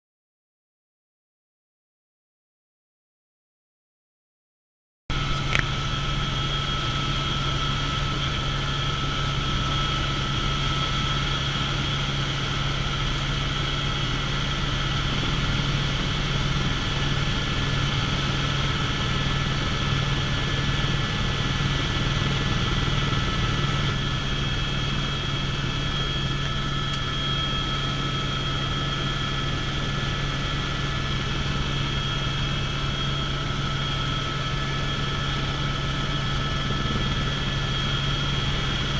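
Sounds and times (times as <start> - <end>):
helicopter rotor and turbine drone: 5.1 - 38.9.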